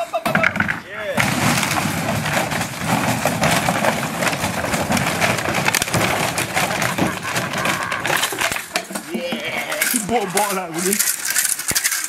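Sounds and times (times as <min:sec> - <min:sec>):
plastic bottles crackling and clattering: 0:00.0 - 0:12.0.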